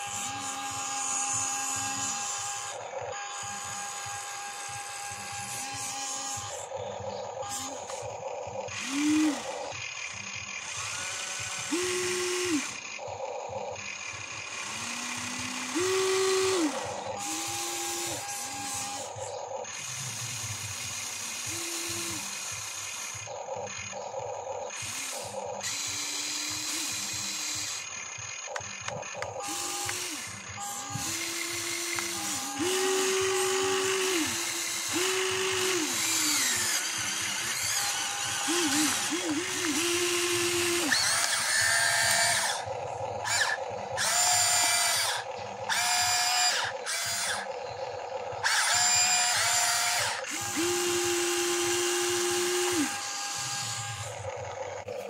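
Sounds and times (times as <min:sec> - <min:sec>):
electric motors whining: 0:00.0 - 0:55.0.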